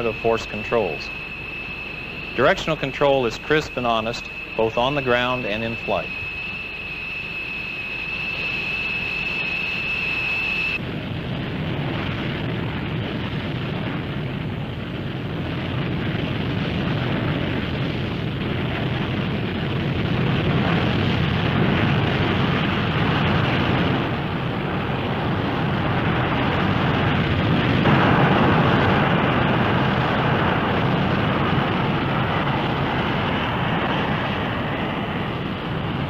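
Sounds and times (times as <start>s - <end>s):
high whine: 0.0s - 36.0s
jet engine running: 0.0s - 36.0s.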